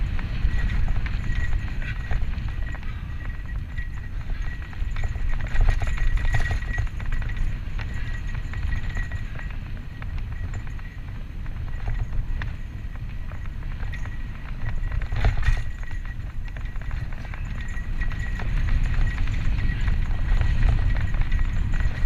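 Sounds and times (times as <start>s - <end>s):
bike clattering and rattling: 0.0s - 22.0s
bike tyres rolling on dirt: 0.0s - 22.0s
wind buffeting camera: 0.0s - 22.0s.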